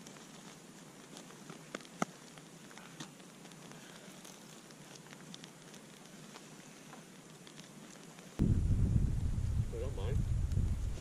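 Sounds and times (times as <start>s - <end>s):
fire crackling: 0.0s - 11.0s
steady fire hiss: 0.0s - 11.0s.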